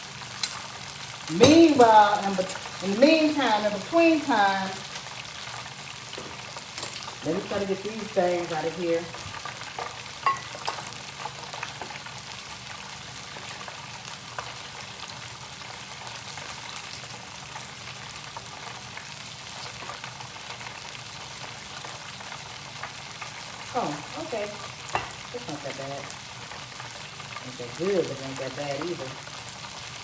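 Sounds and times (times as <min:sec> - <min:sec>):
hot oil sizzling: 0:00.0 - 0:30.0.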